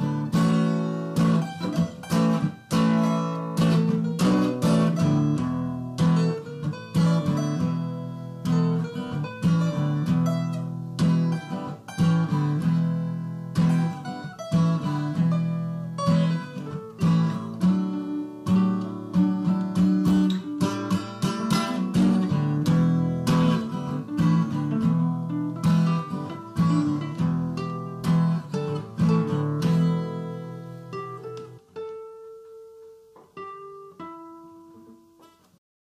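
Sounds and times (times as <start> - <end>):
acoustic guitar playing: 0.0 - 35.6.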